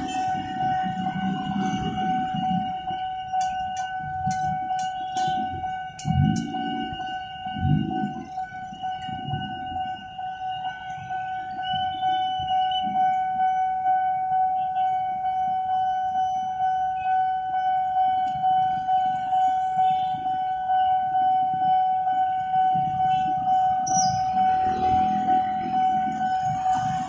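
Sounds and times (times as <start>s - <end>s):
level crossing alarm tone: 0.0s - 27.0s.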